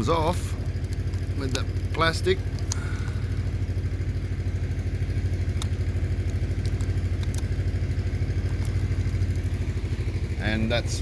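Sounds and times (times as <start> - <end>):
pulsing mechanical drone: 0.0 - 11.0.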